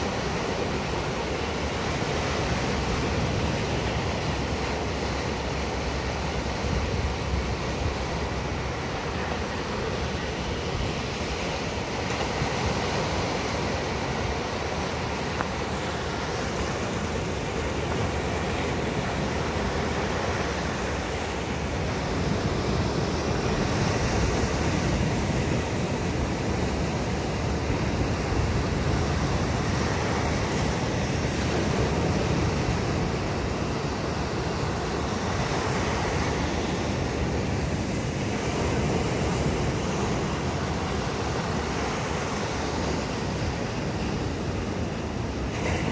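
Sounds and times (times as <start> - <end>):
sea surf breaking on beach: 0.0 - 45.9.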